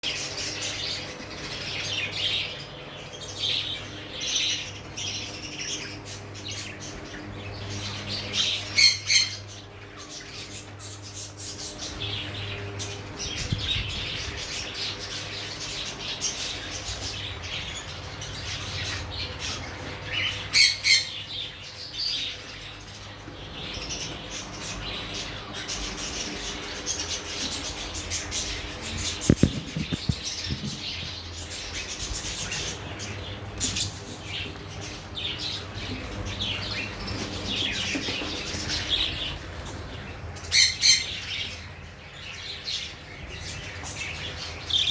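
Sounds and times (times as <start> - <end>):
steady low hum: 0.0 - 37.9
parrots and finches chirping: 0.0 - 44.9.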